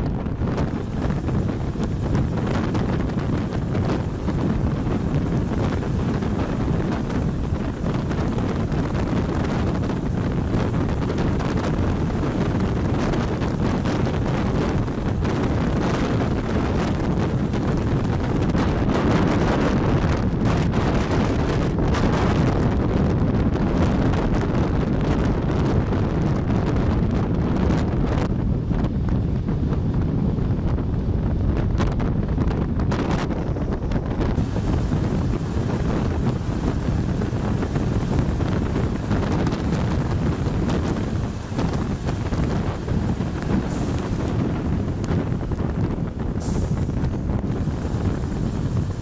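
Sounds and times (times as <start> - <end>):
train running noise: 0.0 - 49.0
wind buffeting microphone: 0.0 - 49.0.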